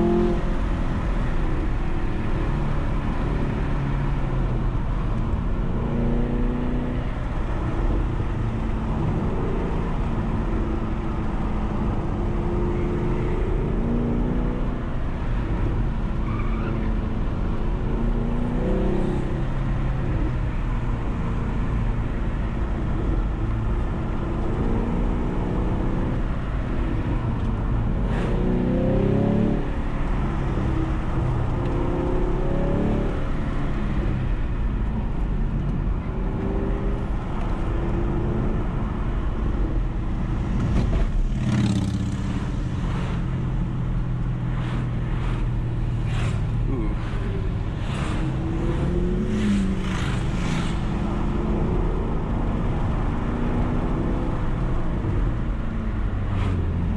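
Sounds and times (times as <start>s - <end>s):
car engine accelerating and shifting: 0.0s - 56.9s
road and tyre noise: 0.0s - 56.9s.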